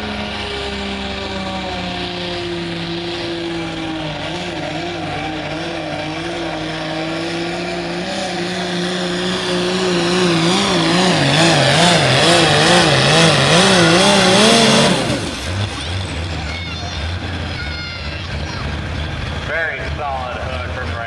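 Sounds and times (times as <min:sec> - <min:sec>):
tractor diesel engine running flat out: 0:00.0 - 0:21.0.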